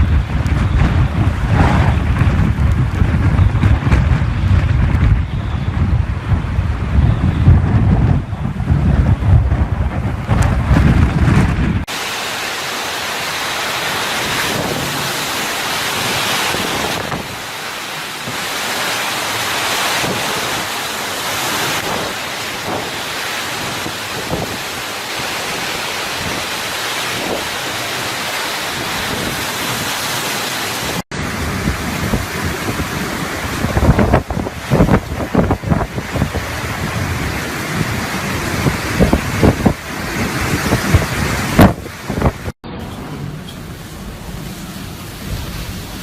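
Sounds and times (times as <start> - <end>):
heavy rain and wind hiss: 0.0 - 46.0
wind gusts buffeting microphone: 0.0 - 46.0.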